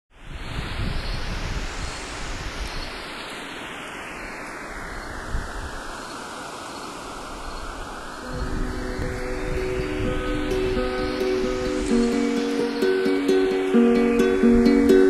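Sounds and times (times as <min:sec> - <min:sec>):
steady rushing noise: 0:00.3 - 0:15.0.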